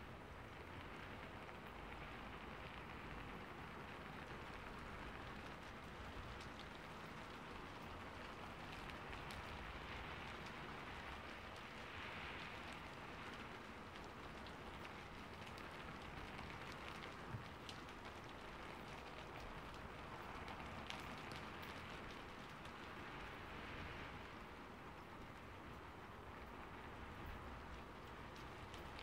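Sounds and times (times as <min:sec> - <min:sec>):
light rain falling: 0:00.0 - 0:29.0
raindrop ticks: 0:00.1 - 0:29.0.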